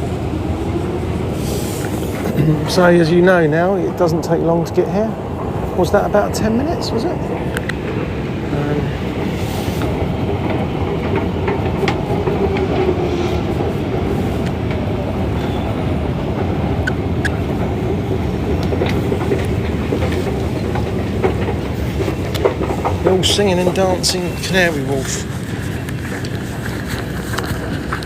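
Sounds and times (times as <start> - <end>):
underground train rumbling: 0.0 - 28.0
wheels clicking on track: 0.0 - 28.0.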